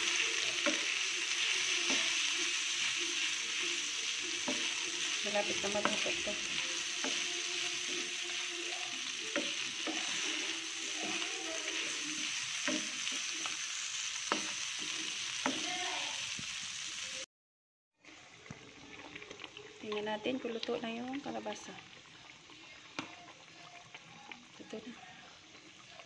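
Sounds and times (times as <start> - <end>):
meat and tofu sizzling in a pan: 0.0 - 17.3, 18.2 - 26.0.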